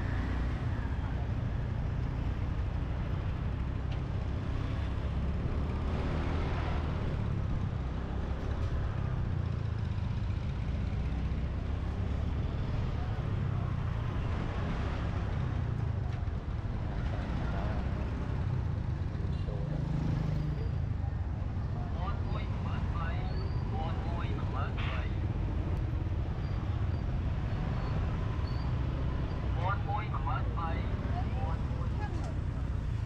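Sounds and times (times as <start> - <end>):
motorbike engine and road rumble: 0.0 - 33.0
scooters and rickshaws passing: 0.0 - 33.0.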